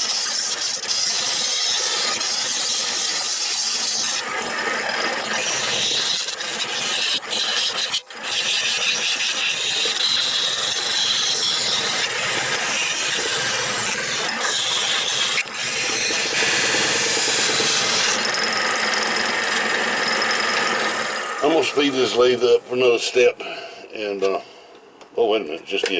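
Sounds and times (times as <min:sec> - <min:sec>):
lathe tool cutting wood: 0:00.0 - 0:23.2.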